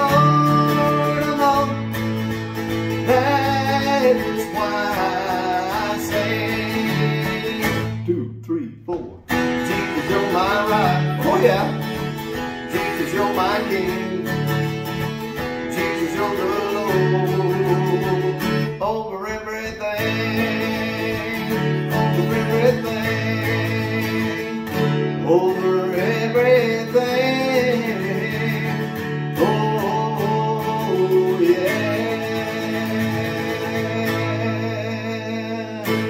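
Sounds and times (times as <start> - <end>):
acoustic guitar strumming: 0.0 - 36.0
man singing: 0.0 - 36.0.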